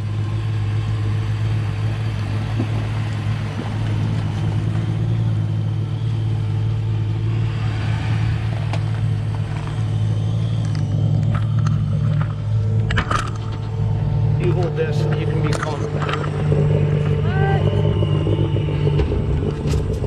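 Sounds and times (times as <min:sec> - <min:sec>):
boat engine idling: 0:00.0 - 0:20.0.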